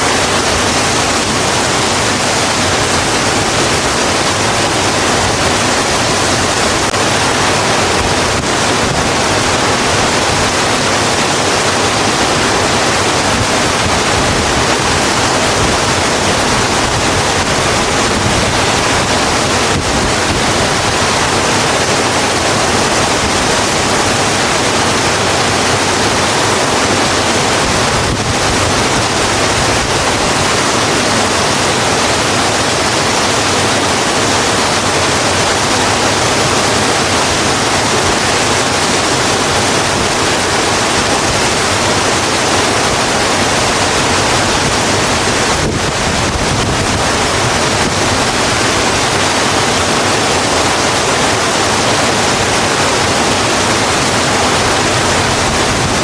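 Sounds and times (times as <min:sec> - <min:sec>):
heavy rain on a road: 0:00.0 - 0:56.0.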